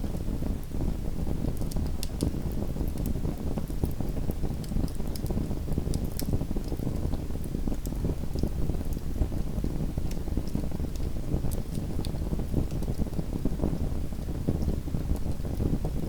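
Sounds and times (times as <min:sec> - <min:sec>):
low rumble of flame: 0:00.0 - 0:16.0
wood fire crackling: 0:00.0 - 0:16.0.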